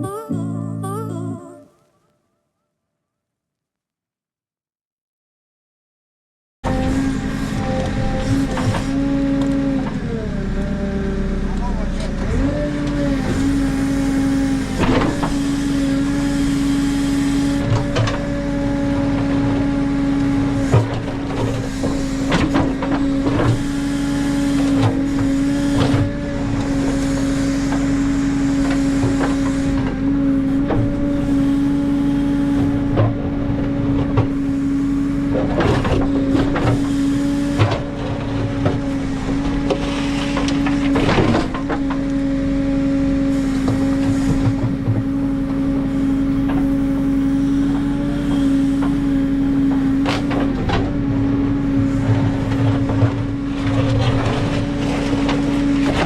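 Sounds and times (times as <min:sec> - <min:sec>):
diesel engine at high revs: 0:06.6 - 0:56.0.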